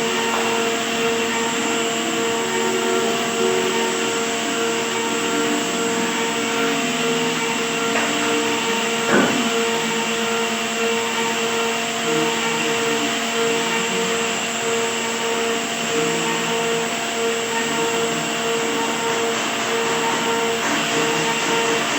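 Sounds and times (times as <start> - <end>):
power tool motor whining: 0.0 - 21.9.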